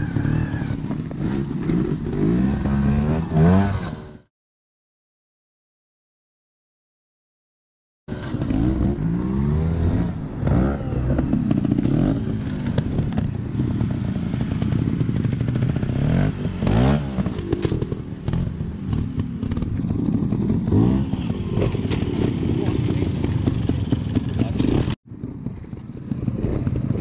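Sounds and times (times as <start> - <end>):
motorcycle engines revving: 0.0 - 4.3, 8.1 - 27.0.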